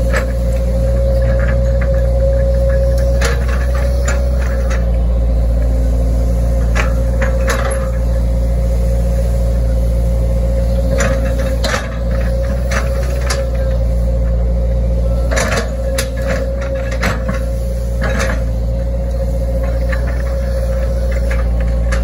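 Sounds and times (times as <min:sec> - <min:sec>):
excavator diesel engine running: 0:00.0 - 0:22.0
steady whine: 0:00.0 - 0:22.0.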